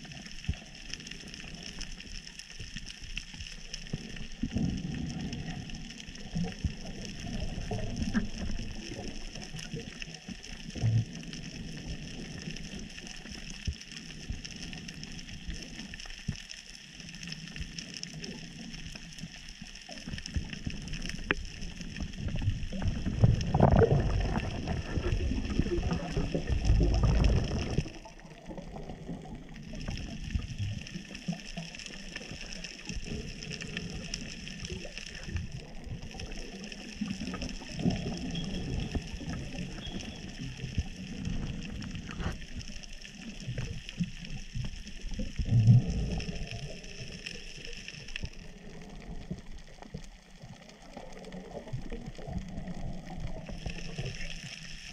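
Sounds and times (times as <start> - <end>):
faint crackling clicks: 0.0 - 54.9
rumbling gurgling water: 0.0 - 54.9
steady underwater hiss: 0.0 - 54.9.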